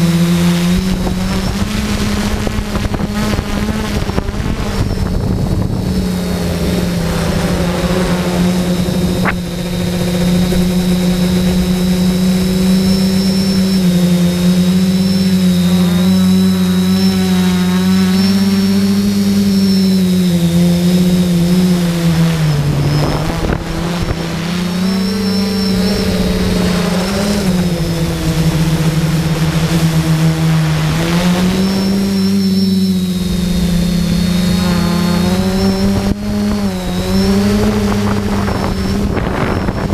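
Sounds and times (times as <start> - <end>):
drone motors humming and whining: 0.0 - 39.9.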